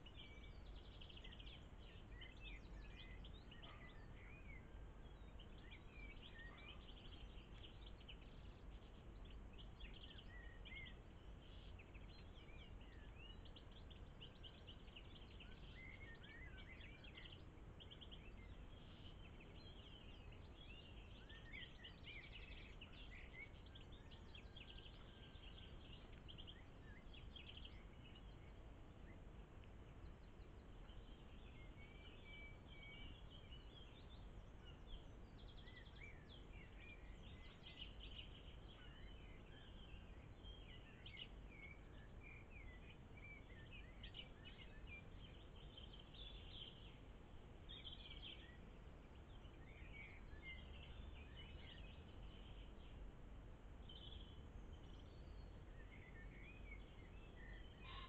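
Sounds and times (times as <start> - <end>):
low background hiss: 0.0 - 58.0
songbirds chirping and trilling: 0.0 - 58.0.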